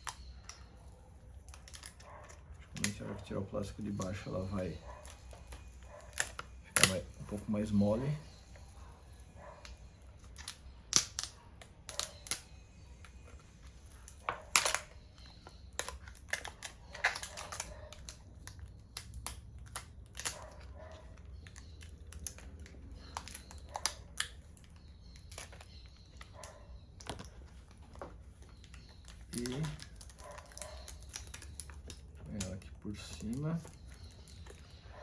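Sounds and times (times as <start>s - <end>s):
plastic crinkling: 0.0s - 35.0s.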